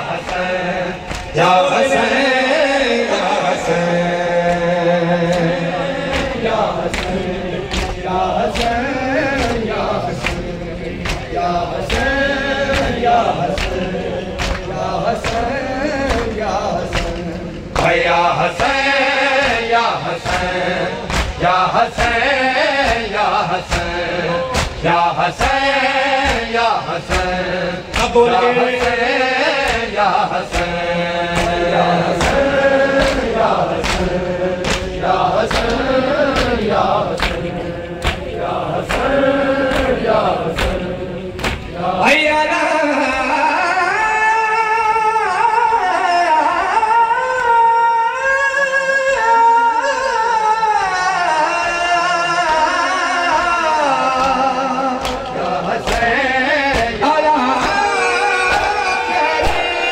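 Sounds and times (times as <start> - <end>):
crowd chanting: 0.0 - 45.0, 50.2 - 59.9
man singing into a microphone: 0.0 - 59.9.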